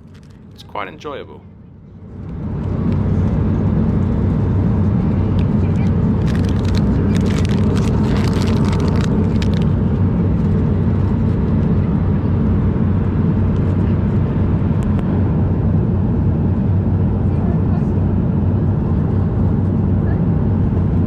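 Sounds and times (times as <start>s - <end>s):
jet cabin engine drone: 0.0s - 21.0s.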